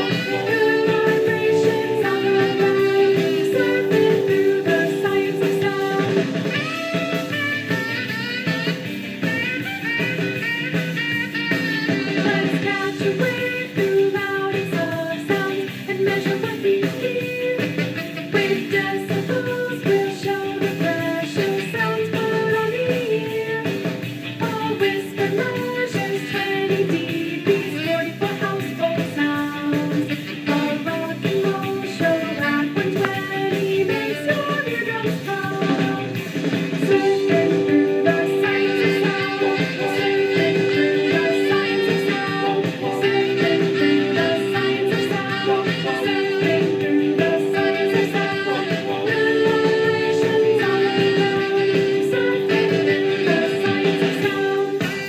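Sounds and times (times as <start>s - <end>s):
rock and roll song: 0.0s - 55.0s.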